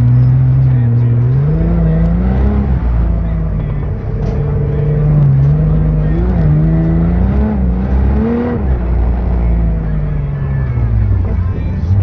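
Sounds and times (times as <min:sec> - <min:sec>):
engine revving under load: 0:00.0 - 0:09.9.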